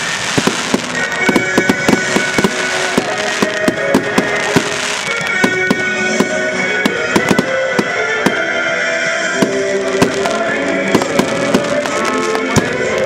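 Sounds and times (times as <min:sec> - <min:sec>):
fireworks bangs and crackles: 0:00.0 - 0:13.0
music: 0:00.0 - 0:13.0.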